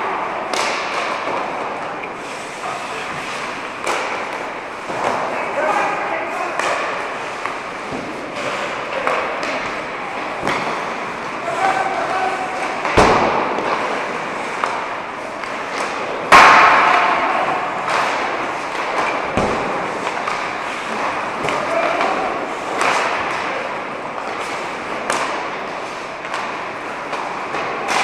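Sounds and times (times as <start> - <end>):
hockey pucks and sticks knocking: 0.0 - 28.0.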